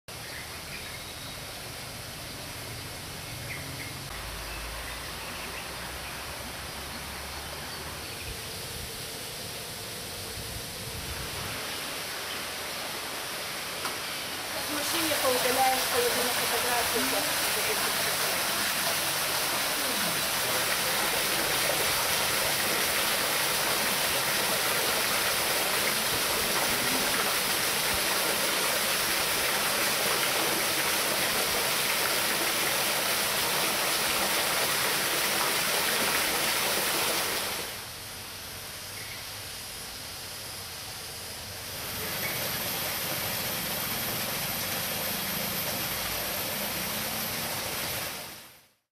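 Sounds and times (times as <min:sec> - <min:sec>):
steady rushing hiss: 0:01.4 - 0:48.8.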